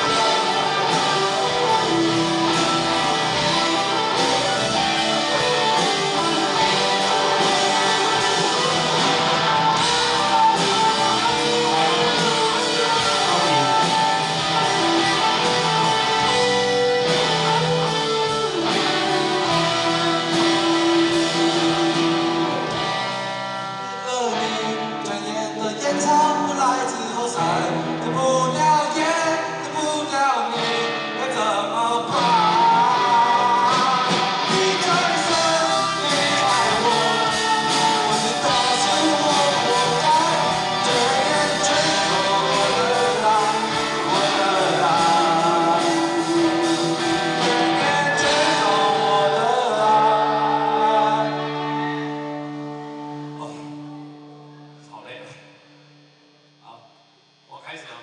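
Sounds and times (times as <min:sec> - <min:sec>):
male lead vocal: 0:00.0 - 0:54.1
live rock band playing: 0:00.0 - 0:54.8.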